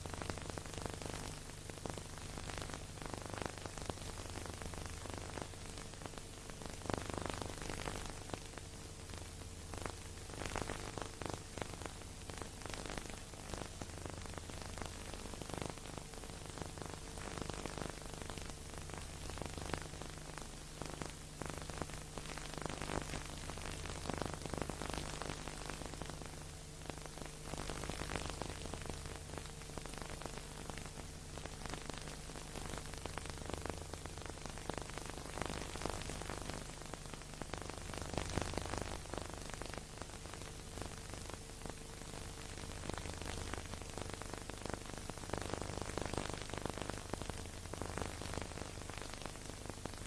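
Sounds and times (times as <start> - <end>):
steady hiss with crackles: 0.0 - 50.0.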